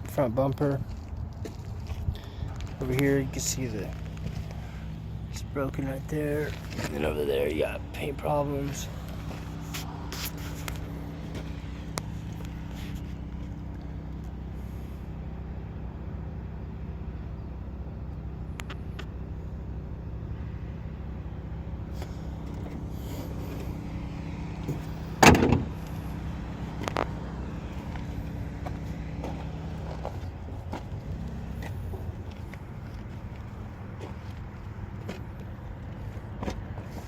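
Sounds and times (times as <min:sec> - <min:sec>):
low motor hum: 0:00.0 - 0:37.0.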